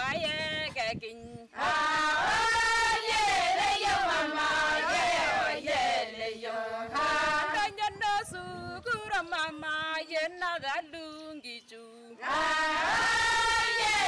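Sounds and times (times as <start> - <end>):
women singing a chant together: 0.0 - 14.0.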